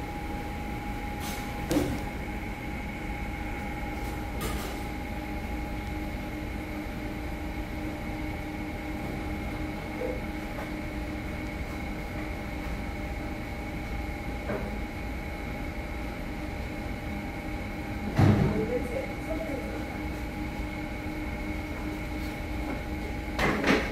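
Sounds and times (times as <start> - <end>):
kitchen equipment humming: 0.0 - 23.9.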